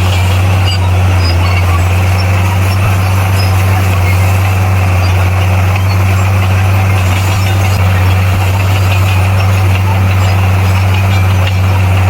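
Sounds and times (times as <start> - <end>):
bulldozer diesel engine drone: 0.0 - 12.0.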